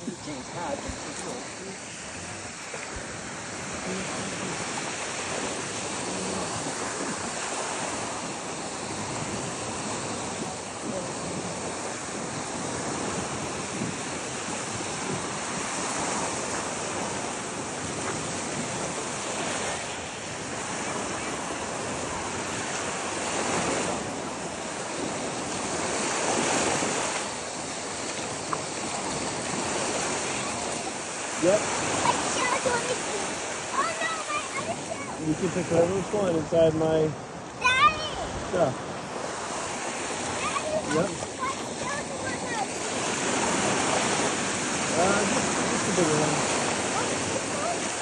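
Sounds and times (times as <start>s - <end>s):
ocean surf washing onto beach: 0.0s - 48.0s
wind on microphone: 0.0s - 48.0s.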